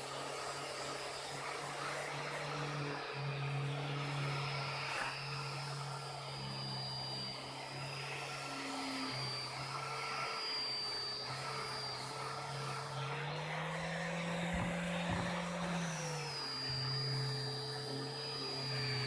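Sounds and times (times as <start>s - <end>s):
power tool motor whining: 0.0s - 19.0s.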